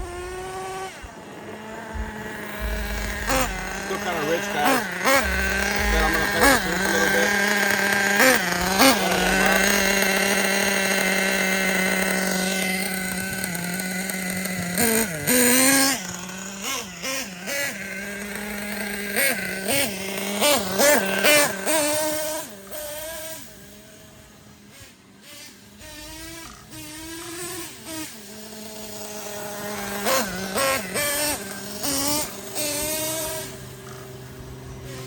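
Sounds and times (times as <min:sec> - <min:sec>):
small nitro engine idling and revving: 0:00.0 - 0:35.0.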